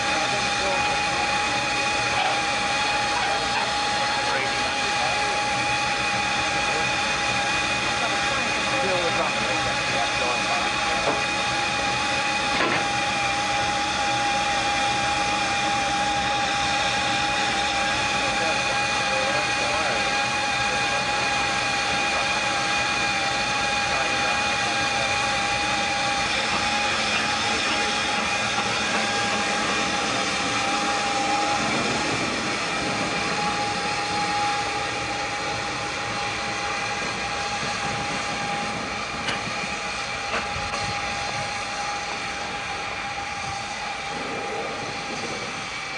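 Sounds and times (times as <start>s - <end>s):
constant whistling tone: 0.0s - 45.9s
steam hissing: 0.0s - 45.9s.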